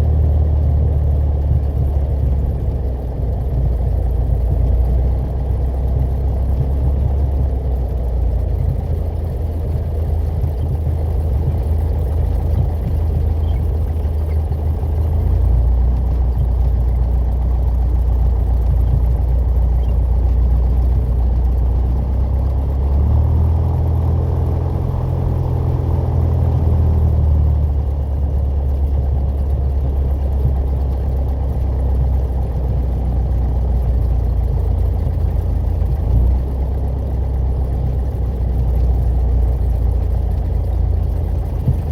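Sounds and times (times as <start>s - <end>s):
light aircraft engine droning: 0.0s - 41.9s.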